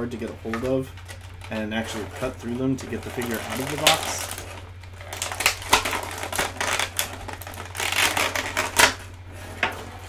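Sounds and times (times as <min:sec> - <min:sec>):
plastic blister tray crinkling: 0:00.0 - 0:10.0.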